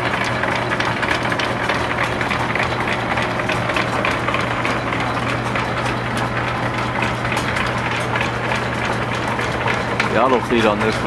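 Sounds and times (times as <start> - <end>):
drill press humming: 0.0 - 11.0.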